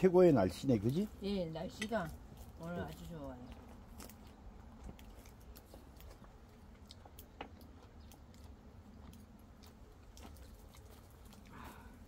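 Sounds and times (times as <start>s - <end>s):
soft chewing: 0.4s - 12.0s.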